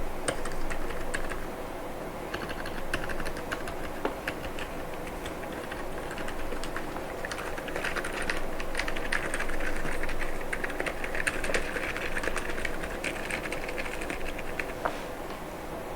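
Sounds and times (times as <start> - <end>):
keyboard keystrokes clicking: 0.2 - 1.4, 2.3 - 14.8.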